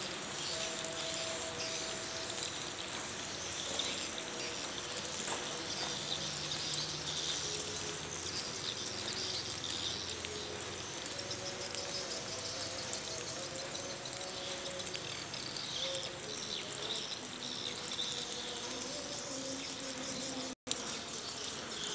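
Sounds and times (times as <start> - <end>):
insects chorus: 0.0 - 21.9.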